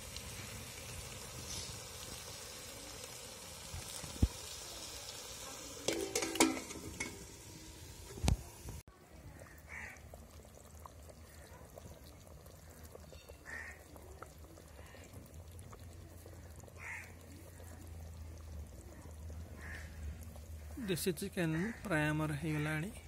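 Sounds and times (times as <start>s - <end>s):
curry bubbling in pot: 0.0s - 23.0s.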